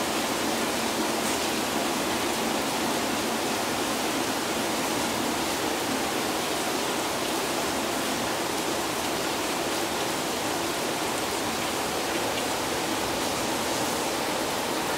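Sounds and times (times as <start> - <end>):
heavy rain downpour: 0.0 - 14.9.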